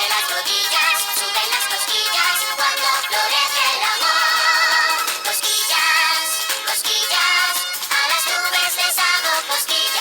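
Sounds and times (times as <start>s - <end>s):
music with high wavering vocal: 0.0s - 10.0s.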